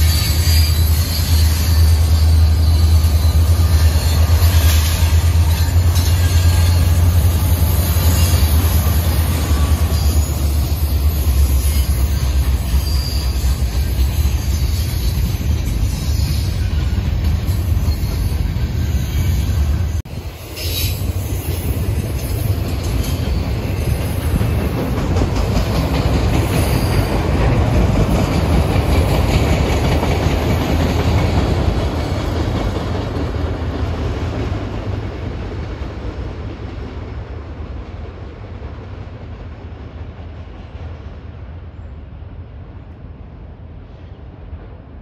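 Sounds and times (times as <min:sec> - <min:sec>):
freight train rolling on rails: 0:00.0 - 0:45.0.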